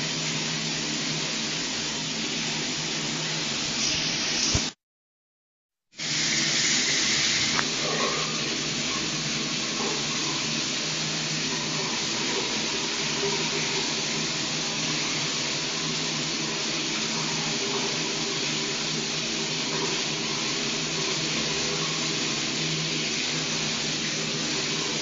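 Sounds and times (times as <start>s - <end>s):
shower water spray: 3.4s - 4.8s, 6.0s - 25.0s.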